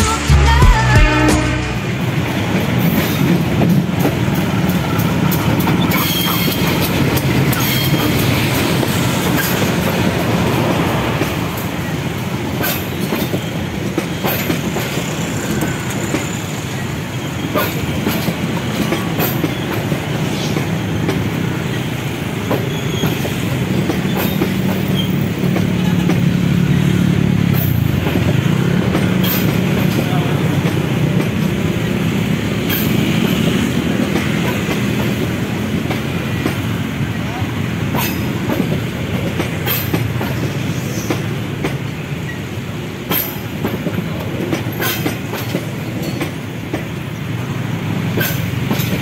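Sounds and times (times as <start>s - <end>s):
train coaches rumbling on rails: 1.8s - 49.0s.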